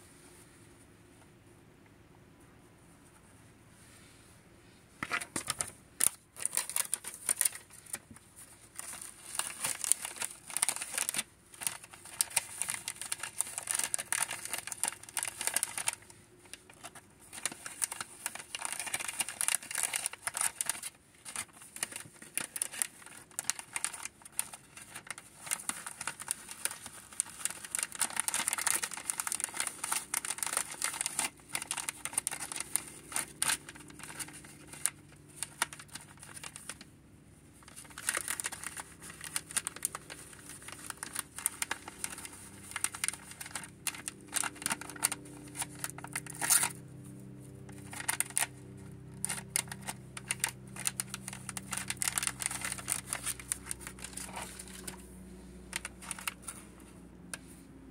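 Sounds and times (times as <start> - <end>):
plastic bag crinkling: 5.0 - 36.9, 37.5 - 56.9.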